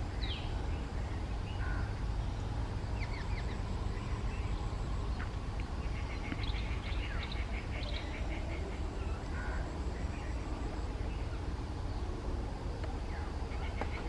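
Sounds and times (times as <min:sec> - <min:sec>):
birds chirping: 0:00.0 - 0:14.0
steady low rumble: 0:00.0 - 0:14.0.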